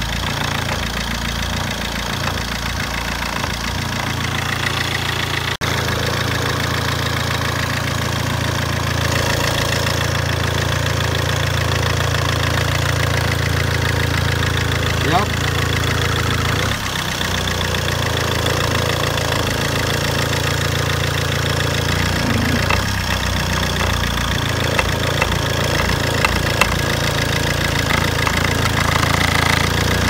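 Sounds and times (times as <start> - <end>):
diesel engine idling with knock: 0.0 - 30.0.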